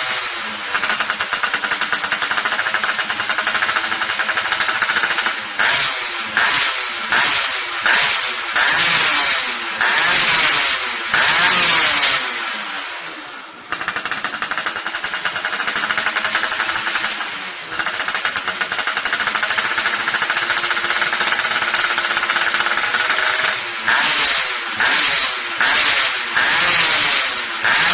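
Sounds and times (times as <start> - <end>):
two-stroke motorcycle engine: 0.0 - 27.9.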